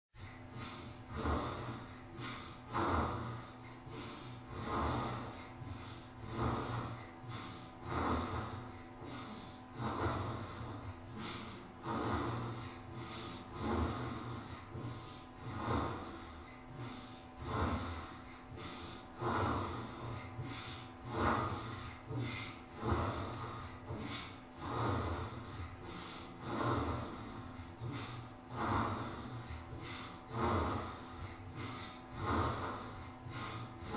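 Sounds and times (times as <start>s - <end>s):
baby snoring: 0.2s - 33.9s.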